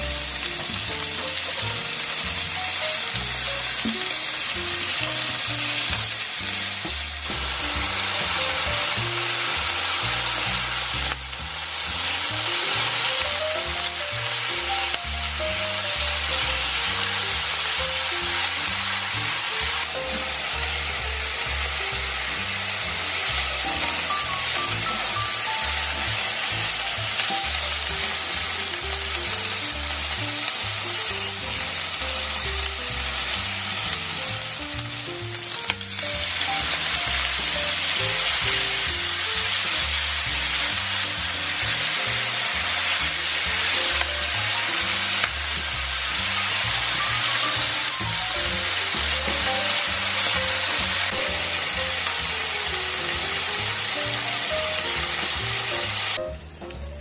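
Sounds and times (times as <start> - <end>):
background music: 0.0 - 57.0
meat and leeks sizzling in oil: 0.0 - 57.0.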